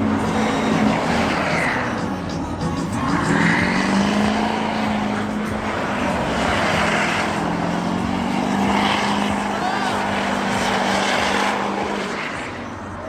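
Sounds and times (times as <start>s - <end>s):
broad wash of noise: 0.0s - 13.0s
engine at high revs: 0.0s - 13.0s.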